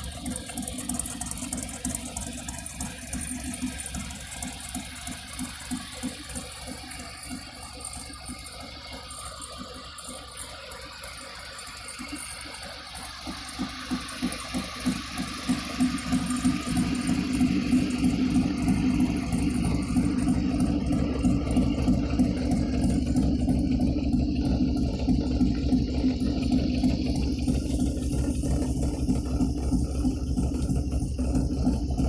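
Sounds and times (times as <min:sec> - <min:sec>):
truck engine running with rattle: 0:00.0 - 0:32.0.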